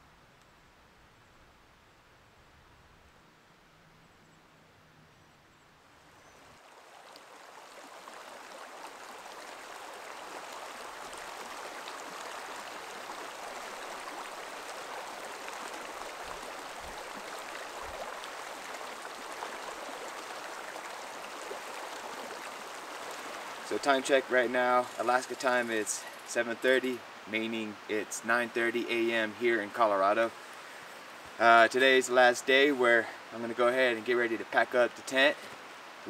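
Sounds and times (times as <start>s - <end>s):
creek running over stones: 6.3s - 36.0s.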